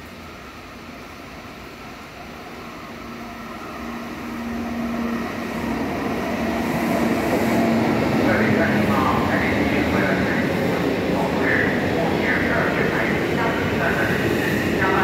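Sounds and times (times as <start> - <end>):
train pulling into station: 0.0 - 15.0.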